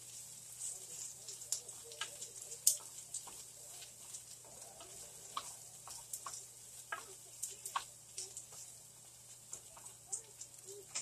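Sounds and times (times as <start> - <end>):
meat sizzling in a pan: 0.0 - 11.0
wooden spoon scraping a pan: 0.0 - 11.0.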